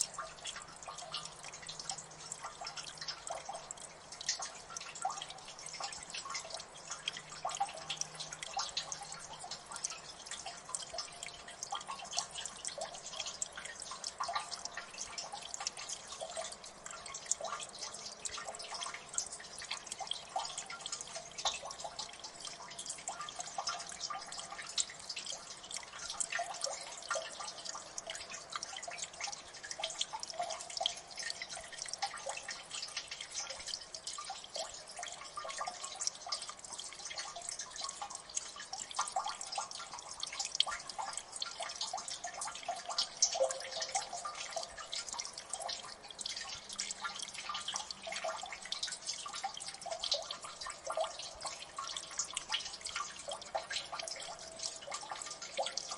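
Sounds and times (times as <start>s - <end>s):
water dripping: 0.0s - 55.9s.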